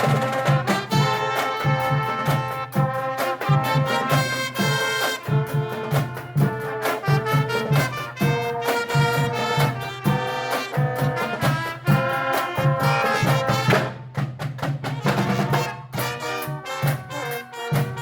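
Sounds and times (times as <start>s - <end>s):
brass horns playing a tune: 0.0s - 18.0s
marching drum beat: 0.0s - 18.0s.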